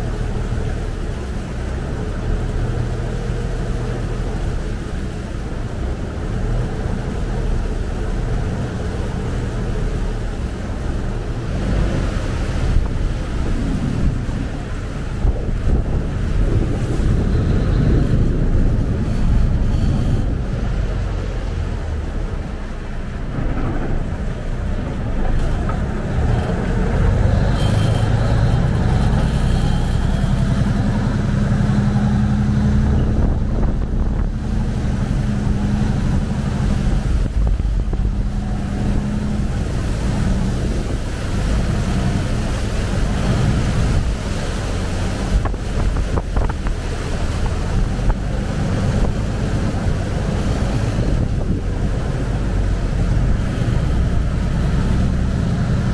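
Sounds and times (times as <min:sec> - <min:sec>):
boat diesel engine droning: 0:00.0 - 0:55.9
water rushing past hull: 0:00.0 - 0:55.9
wind buffeting microphone: 0:00.0 - 0:55.9.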